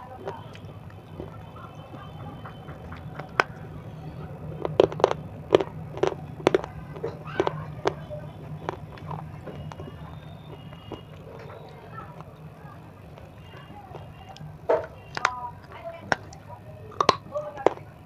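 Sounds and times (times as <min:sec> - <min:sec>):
crunchy candy being chewed: 0:00.0 - 0:18.0
steady low hum: 0:00.0 - 0:18.0.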